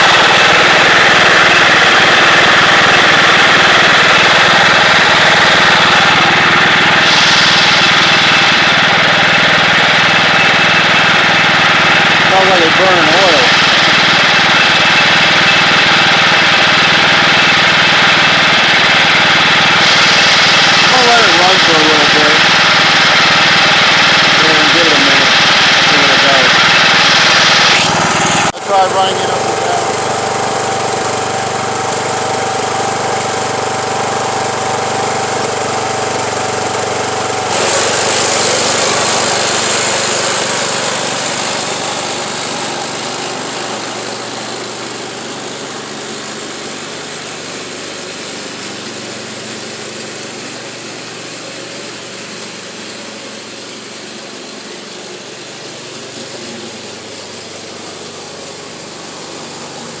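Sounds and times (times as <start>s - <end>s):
riding lawn tractor engine running: 0.0s - 60.0s.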